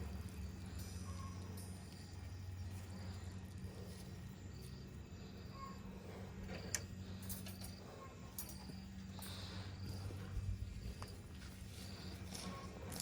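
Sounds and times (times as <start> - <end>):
faint insect chirping: 0.0 - 13.0
steady low hum: 0.0 - 13.0.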